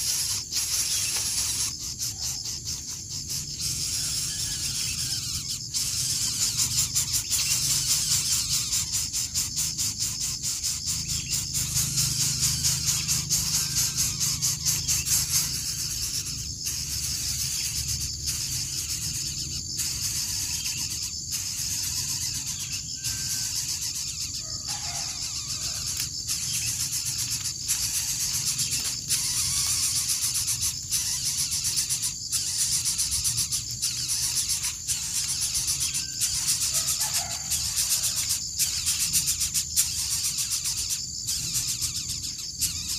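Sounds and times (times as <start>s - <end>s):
high-pitched insect chirring: 0.0s - 42.9s.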